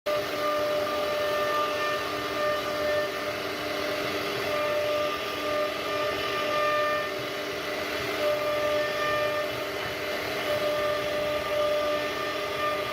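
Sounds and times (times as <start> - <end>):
hiss of bit cutting wood: 0.1 - 12.9
router spindle high whine: 0.1 - 12.9.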